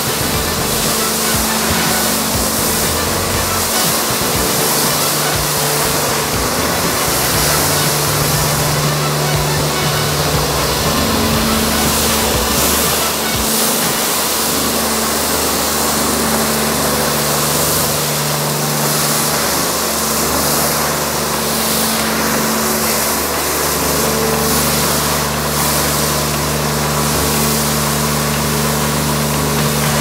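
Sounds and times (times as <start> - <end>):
foam spraying hiss: 0.0 - 30.0
pressure washer pump humming: 0.0 - 30.0.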